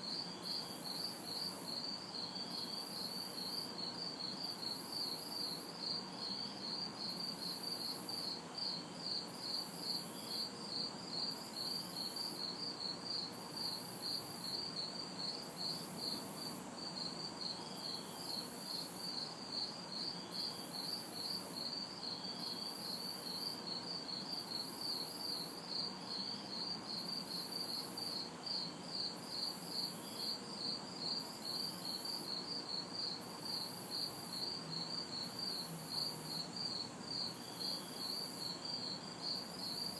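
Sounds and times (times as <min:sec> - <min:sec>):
crickets chirping: 0:00.0 - 0:39.9
high hissing insect trill: 0:00.1 - 0:39.9.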